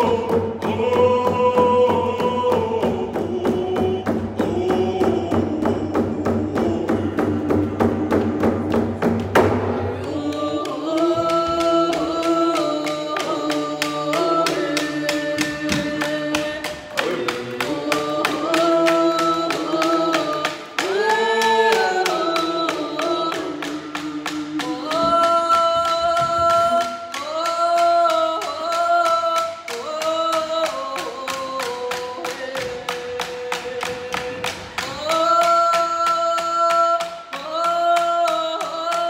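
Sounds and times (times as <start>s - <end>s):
frame drums beating: 0.0s - 39.0s
group singing in unison: 0.0s - 39.0s.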